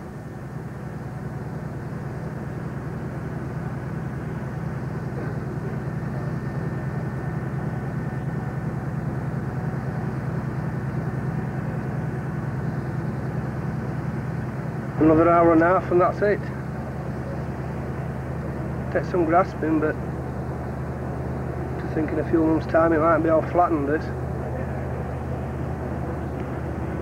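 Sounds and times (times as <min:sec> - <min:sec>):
low pulsing mechanical rumble: 0:00.0 - 0:27.0.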